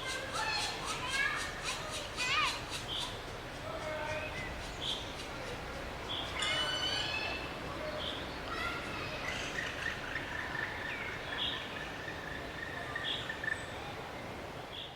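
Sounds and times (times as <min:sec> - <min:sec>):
background hiss: 0:00.0 - 0:14.9.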